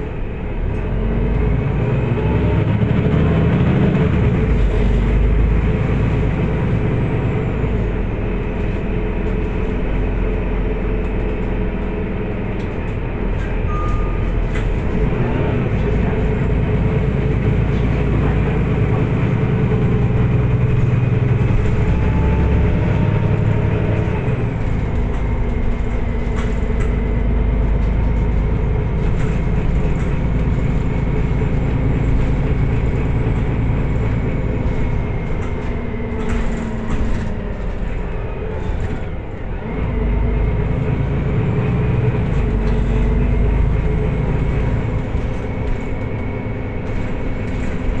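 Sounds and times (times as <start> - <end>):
bus cabin rumble: 0.0 - 48.0
drivetrain whine: 0.0 - 48.0
interior rattles: 3.0 - 48.0.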